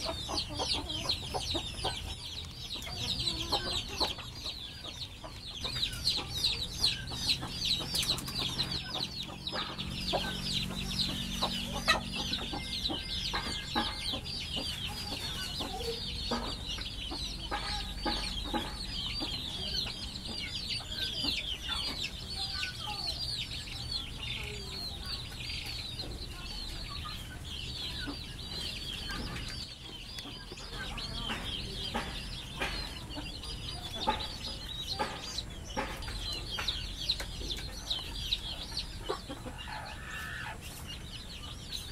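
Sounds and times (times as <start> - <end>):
chickens clucking: 0.0 - 41.9
chicks peeping: 0.0 - 41.9.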